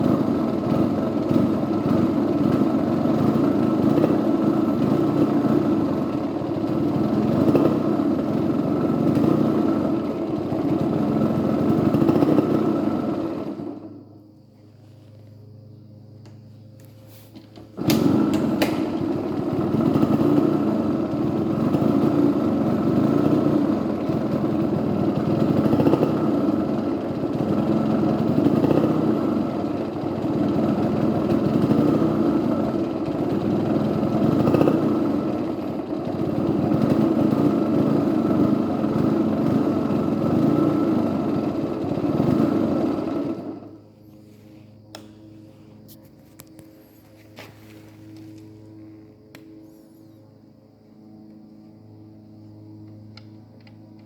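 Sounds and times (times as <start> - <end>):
two-stroke engine running: 0.0 - 14.3, 17.3 - 49.9.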